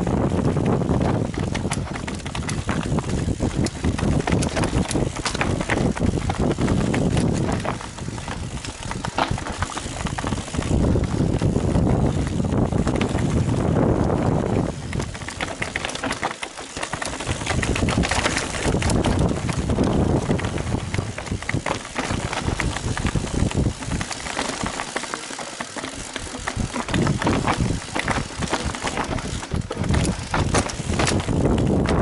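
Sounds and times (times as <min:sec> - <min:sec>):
wind on microphone: 0:00.0 - 0:16.2, 0:16.8 - 0:24.8, 0:26.2 - 0:32.0
bike clicks and rattles: 0:00.0 - 0:32.0
tyres running over ground: 0:00.0 - 0:32.0.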